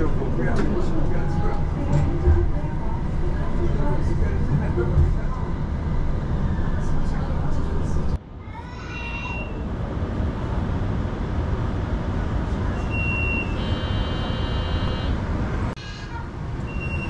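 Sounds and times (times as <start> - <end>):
tram rumble: 0.0 - 17.0.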